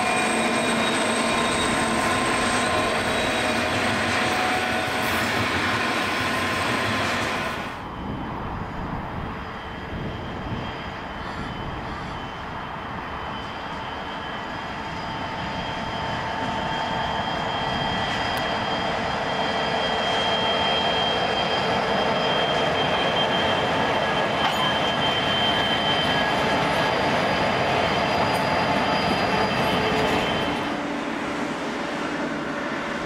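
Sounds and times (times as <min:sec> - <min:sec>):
diesel locomotives passing: 0:00.0 - 0:33.0
distant coal train approaching: 0:00.0 - 0:33.0.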